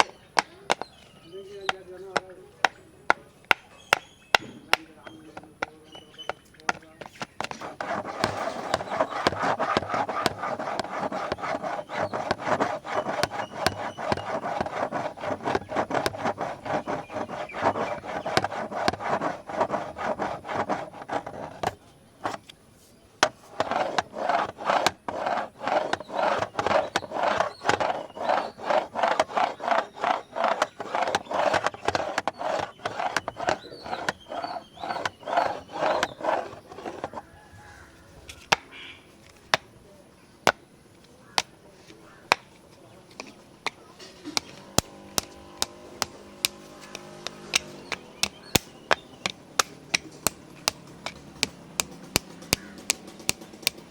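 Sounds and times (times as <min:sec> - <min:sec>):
scratching on camera body: 0:03.5 - 0:38.6, 0:41.4 - 0:53.9.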